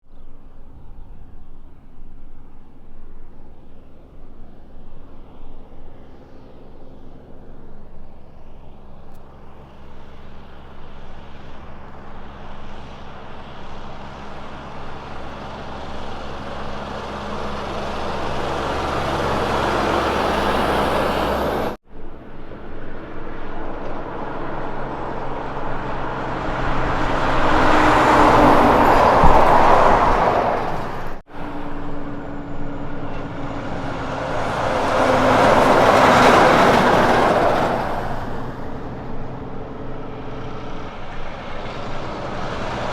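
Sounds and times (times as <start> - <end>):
tyre and road noise: 0.1 - 42.9
trucks driving past: 0.3 - 42.9
diesel engine pulling: 0.7 - 42.9.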